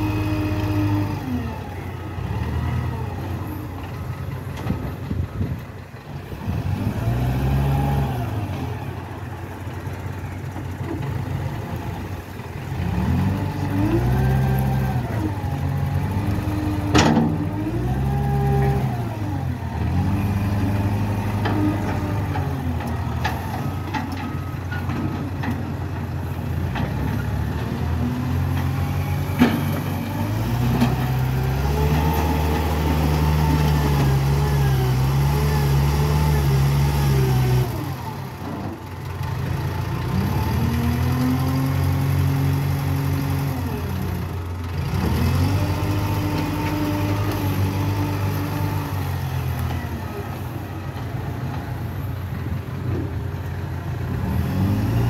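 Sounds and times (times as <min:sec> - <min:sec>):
wheel loader diesel engine revving: 0:00.0 - 0:55.0.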